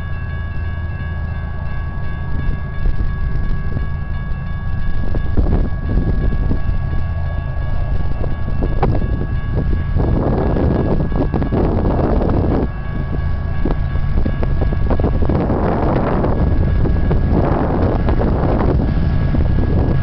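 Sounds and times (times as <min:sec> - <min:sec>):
locomotive engine rumble: 0:00.0 - 0:20.0
steady high-pitched tone: 0:00.0 - 0:20.0.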